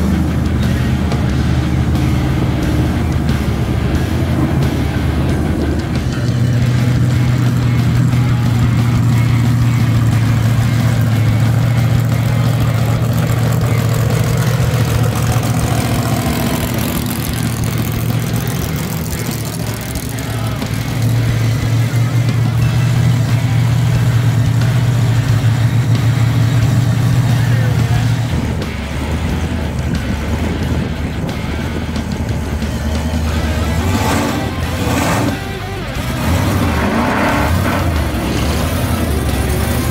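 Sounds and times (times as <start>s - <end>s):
monster truck engines rumbling: 0.0s - 39.9s.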